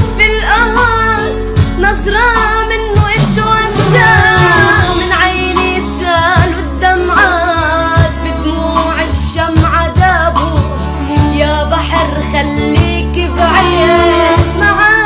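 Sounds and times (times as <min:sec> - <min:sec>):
instrumental backing: 0:00.0 - 0:15.0
steady low bass: 0:00.0 - 0:15.0
woman singing: 0:00.0 - 0:15.0.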